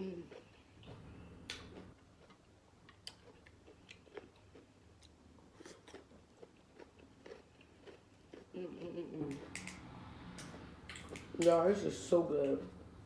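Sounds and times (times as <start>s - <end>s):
faint chewing with mouth clicks: 0.0s - 11.6s.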